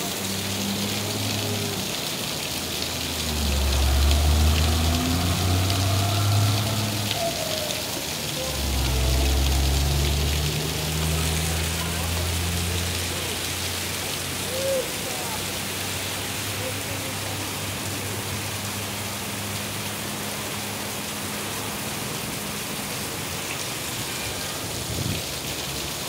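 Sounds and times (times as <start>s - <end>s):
heavy rain falling: 0.0s - 26.0s
vehicles passing on wet street: 0.0s - 26.0s.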